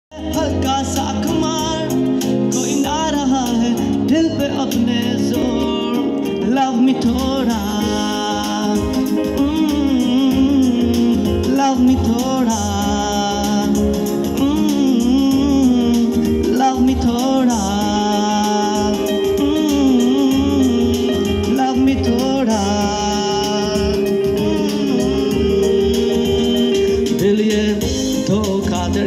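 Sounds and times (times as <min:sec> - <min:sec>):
keyboard chords and bass: 0:00.1 - 0:29.0
man singing ornamented melody: 0:00.1 - 0:29.0.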